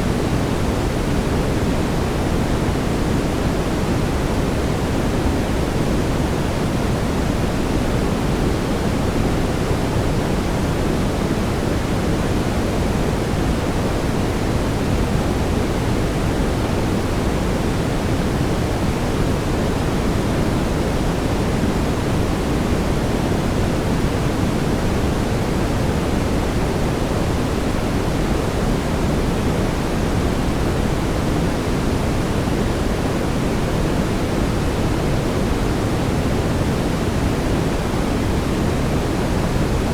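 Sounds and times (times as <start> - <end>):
steady brown noise hiss: 0.0 - 39.9.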